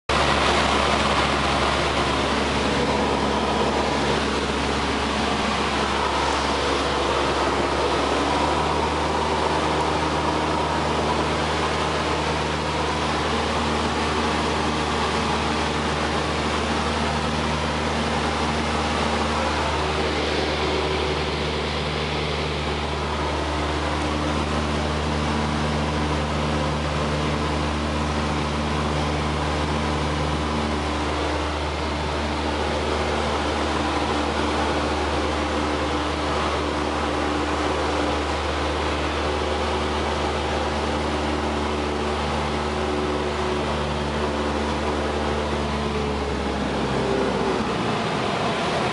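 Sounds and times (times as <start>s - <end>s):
light aircraft engine drone in cabin: 0.1s - 48.9s.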